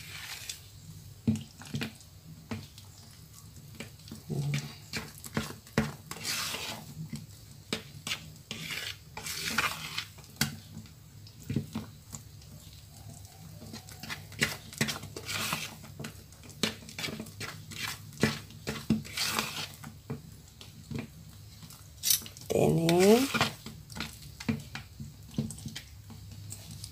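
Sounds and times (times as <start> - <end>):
spatula scraping wet batter: 0.0 - 26.9.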